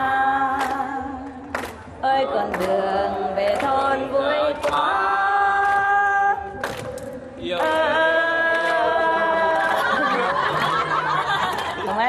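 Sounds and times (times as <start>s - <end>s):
woman singing unaccompanied: 0.0s - 10.3s.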